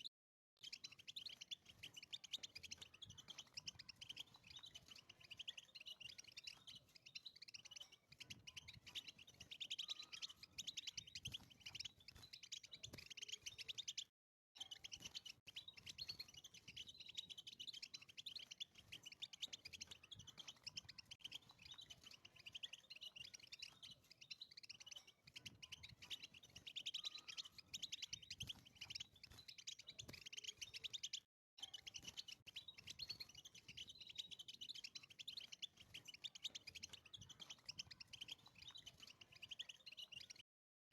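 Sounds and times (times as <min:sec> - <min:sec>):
goldfinch twittering song: 0:00.0 - 0:40.4.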